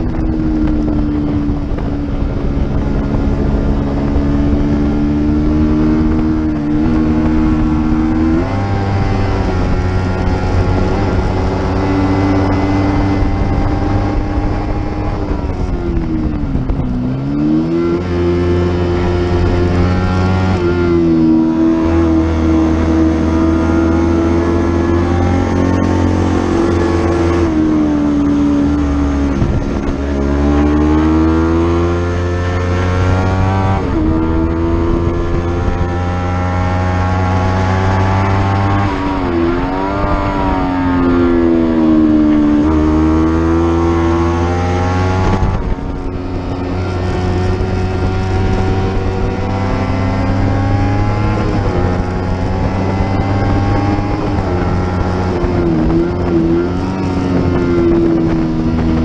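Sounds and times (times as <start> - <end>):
racing motorcycle engine revving: 0.0 - 59.0.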